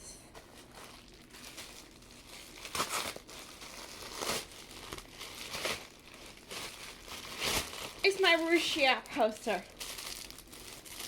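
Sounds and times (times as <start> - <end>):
package wrapping crinkling and tearing: 0.4 - 11.0.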